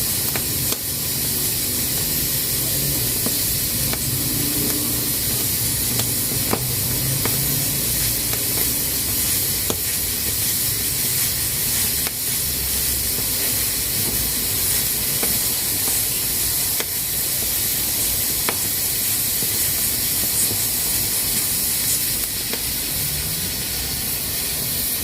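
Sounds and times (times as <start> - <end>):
pressure cooker hissing: 0.0 - 25.0.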